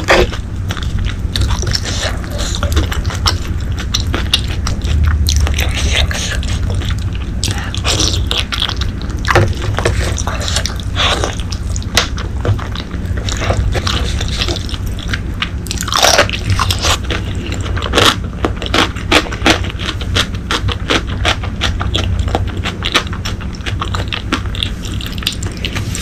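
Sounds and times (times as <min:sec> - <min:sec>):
person chewing: 0:00.0 - 0:26.0
steady low hum: 0:00.0 - 0:26.0.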